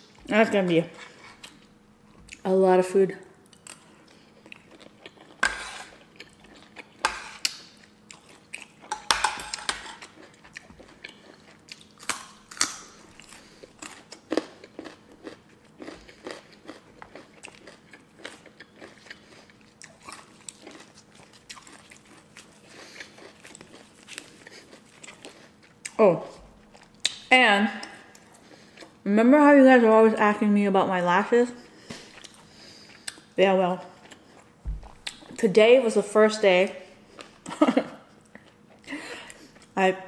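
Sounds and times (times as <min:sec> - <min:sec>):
chewing crunchy vegetables: 0:00.1 - 0:02.5, 0:03.4 - 0:29.1, 0:31.5 - 0:35.4, 0:36.9 - 0:39.8.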